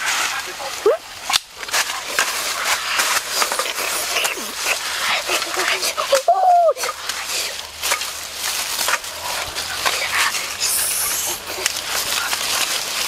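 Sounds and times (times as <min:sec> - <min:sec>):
dry leaves crackling: 0:00.0 - 0:13.0
high hiss: 0:00.0 - 0:13.0.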